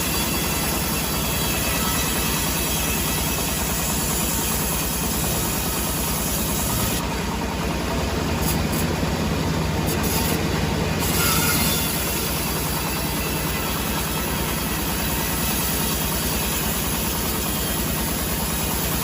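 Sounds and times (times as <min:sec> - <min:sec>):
sawmill machinery rumbling: 0:00.0 - 0:19.0.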